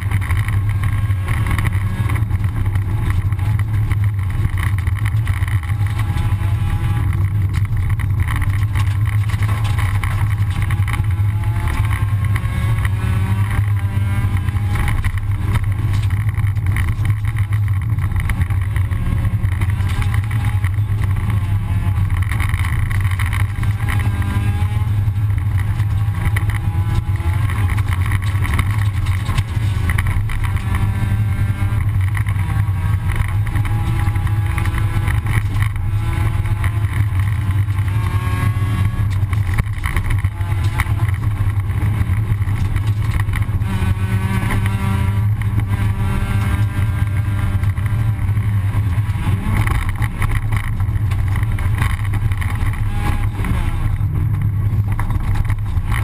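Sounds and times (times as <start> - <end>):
rally car engine under throttle: 0.0 - 56.0
rumble from gravel road: 0.0 - 56.0.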